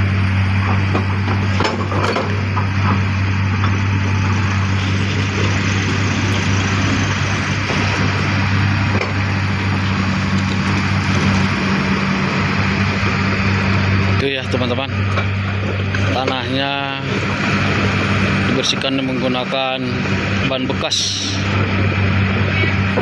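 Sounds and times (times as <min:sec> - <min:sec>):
diesel machinery humming: 0:00.0 - 0:23.0.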